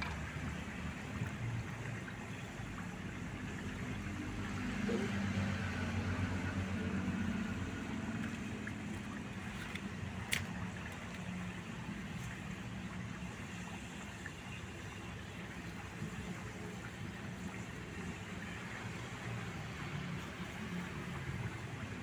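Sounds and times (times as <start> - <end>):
broth boiling and bubbling: 0.0 - 22.0.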